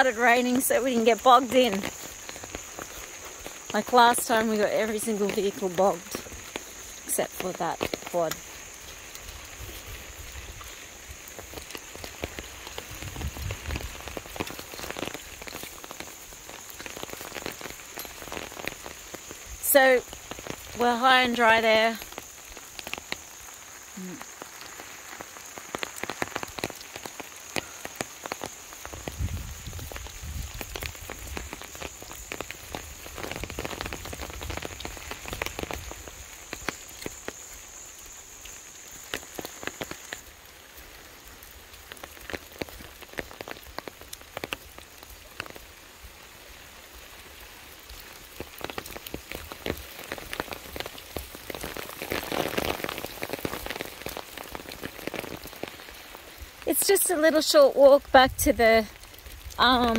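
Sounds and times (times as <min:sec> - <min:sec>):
rain falling on bushes: 0:00.0 - 0:59.9.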